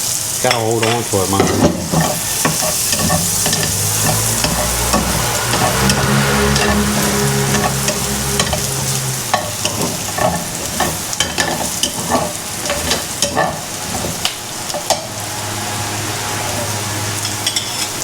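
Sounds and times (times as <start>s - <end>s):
onions sizzling in a frying pan: 0.0s - 18.0s
utensil scraping a pan: 0.5s - 15.2s, 16.4s - 18.0s.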